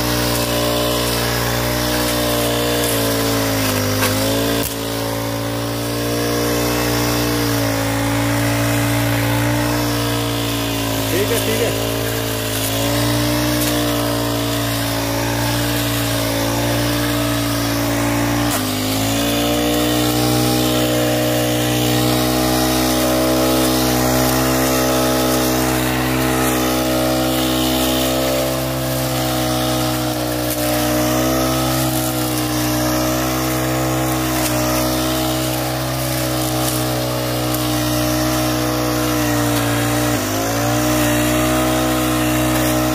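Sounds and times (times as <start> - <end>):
blade cutting weeds: 0.0 - 42.9
brush cutter engine running: 0.0 - 42.9.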